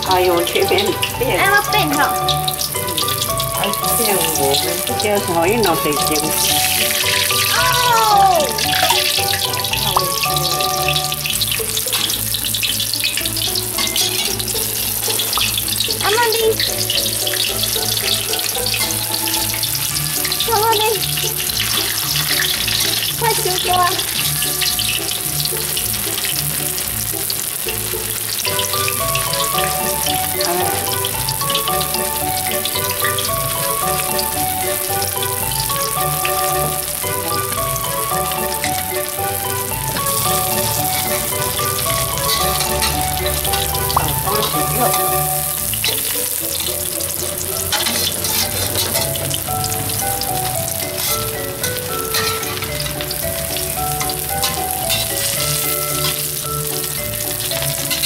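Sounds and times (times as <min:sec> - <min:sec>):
light background music: 0:00.0 - 0:58.0
tofu sizzling in oil: 0:00.0 - 0:58.0
metal spatula in wok: 0:08.6 - 0:58.0.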